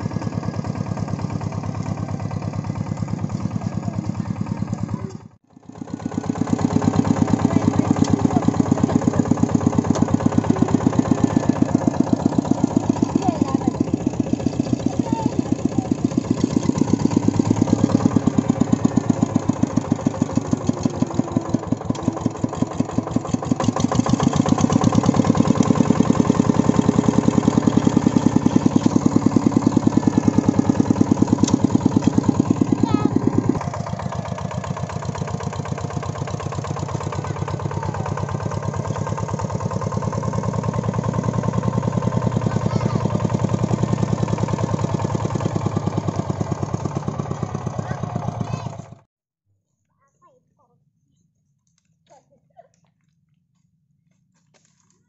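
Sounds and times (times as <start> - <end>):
single-cylinder diesel engine running: 0.0 - 49.1.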